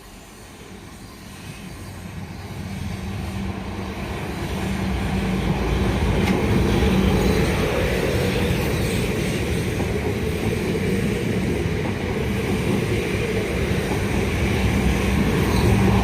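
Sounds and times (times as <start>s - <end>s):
electric train rumbling and humming: 0.0s - 16.0s.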